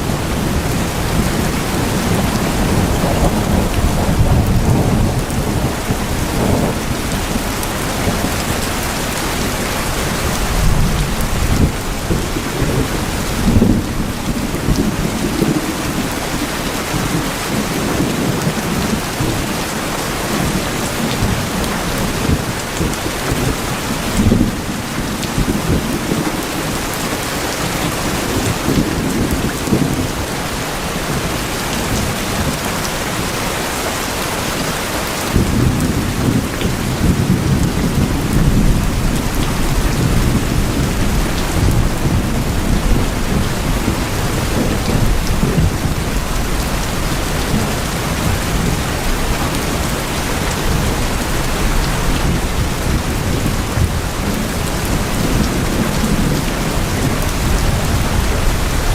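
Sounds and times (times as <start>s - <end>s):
heavy rain on tin roofs: 0.0s - 58.9s
thunder rumbling: 0.0s - 58.9s.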